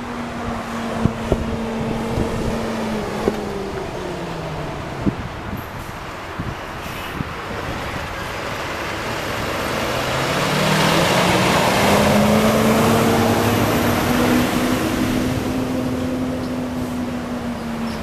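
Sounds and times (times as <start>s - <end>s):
jet engines rushing: 0.0s - 18.0s
low engine hum: 0.0s - 18.0s.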